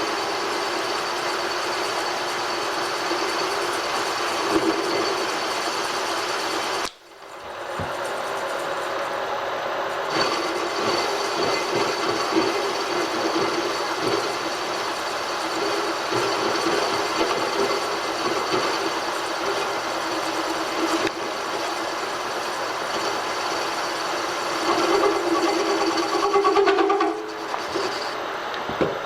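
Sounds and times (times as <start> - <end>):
machine tool boring metal: 0.0 - 7.4, 9.9 - 28.3
thin high whine: 0.0 - 28.4.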